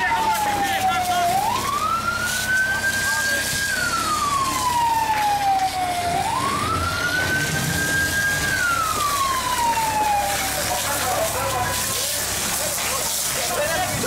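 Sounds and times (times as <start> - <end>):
emergency vehicle siren wailing: 0.0 - 14.0
steady background noise: 0.0 - 14.0.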